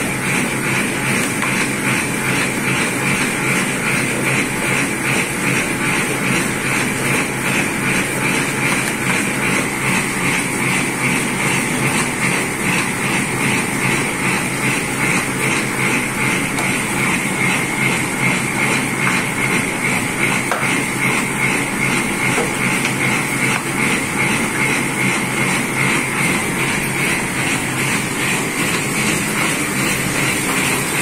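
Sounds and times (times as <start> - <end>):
lamination machine rumbling: 0.0 - 31.0.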